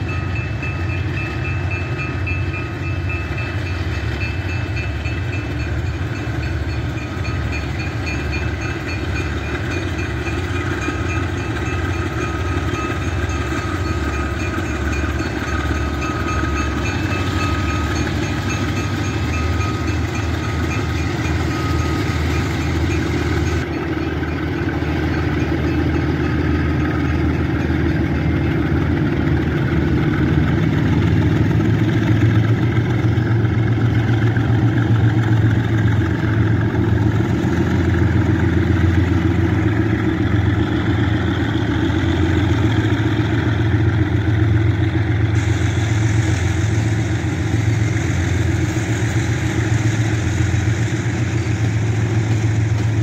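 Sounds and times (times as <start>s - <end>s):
diesel locomotive engines whining: 0.0s - 53.0s.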